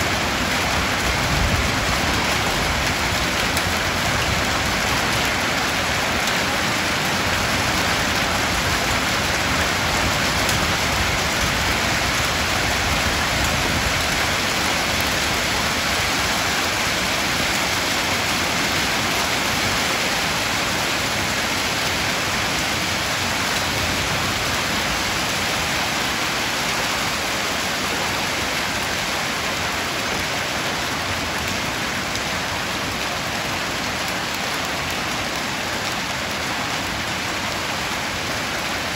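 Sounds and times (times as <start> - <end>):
heavy rain and hail on concrete: 0.0 - 38.9.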